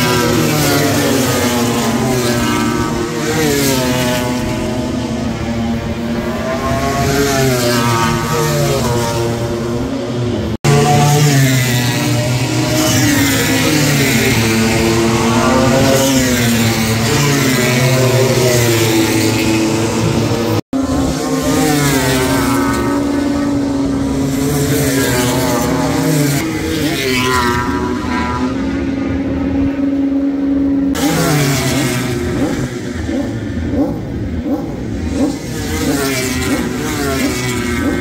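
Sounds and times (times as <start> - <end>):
racing motorcycle engines revving: 0.0 - 38.0.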